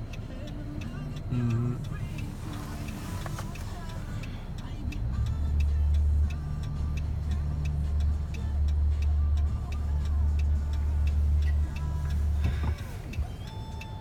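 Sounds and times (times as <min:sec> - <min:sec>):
car interior rumble: 0:00.0 - 0:14.0
regular ticking: 0:00.0 - 0:14.0.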